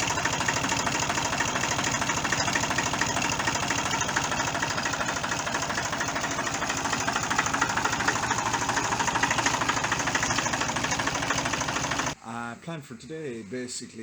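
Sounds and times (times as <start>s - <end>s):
diesel tractor engine running: 0.0s - 12.2s.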